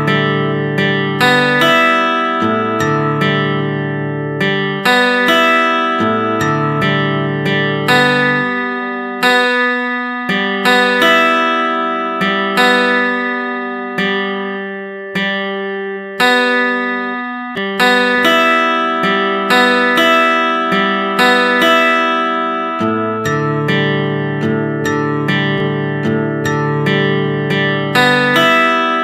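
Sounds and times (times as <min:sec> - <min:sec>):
acoustic guitar chords ringing: 0:00.0 - 0:29.0.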